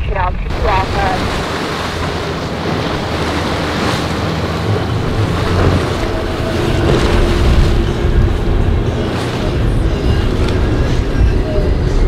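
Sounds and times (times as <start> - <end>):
outboard motor running: 0.0 - 12.0
waves and surf: 0.0 - 12.0
wind buffeting microphone: 0.0 - 12.0.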